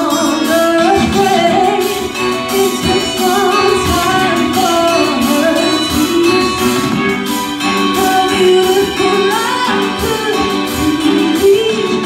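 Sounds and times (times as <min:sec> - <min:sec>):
instrumental accompaniment: 0:00.0 - 0:12.0
person singing into microphone: 0:00.0 - 0:12.0.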